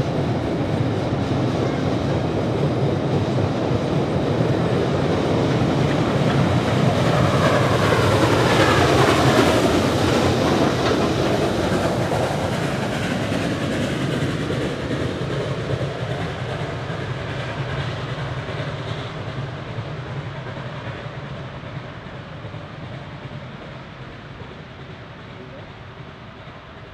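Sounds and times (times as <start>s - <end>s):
steam train crossing steel bridge: 0.0s - 26.9s.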